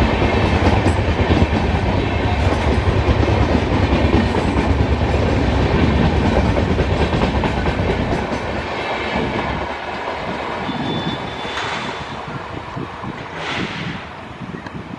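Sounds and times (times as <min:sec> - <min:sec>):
train passing at speed: 0:00.0 - 0:14.9.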